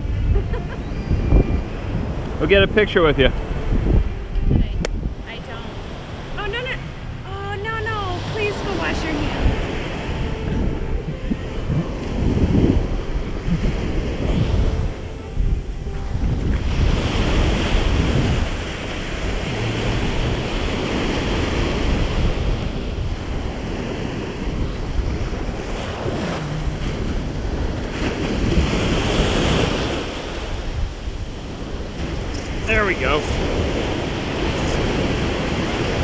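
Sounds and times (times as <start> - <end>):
ocean surf breaking on beach: 0.0 - 36.0
wind buffeting microphone: 0.0 - 36.0.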